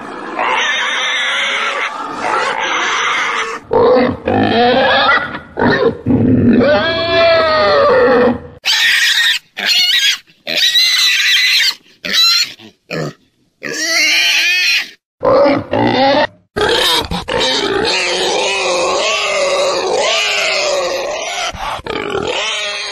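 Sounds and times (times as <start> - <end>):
pig squealing: 0.0 - 22.9.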